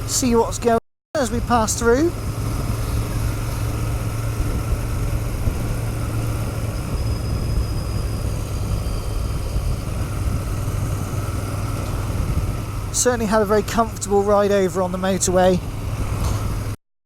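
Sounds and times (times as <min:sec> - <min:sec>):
motorcycle engine running: 0:01.2 - 0:16.8.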